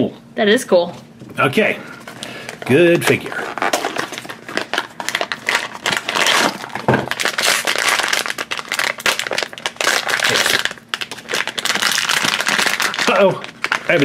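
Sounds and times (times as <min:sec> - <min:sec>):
foil bag crinkling: 0:02.0 - 0:14.0.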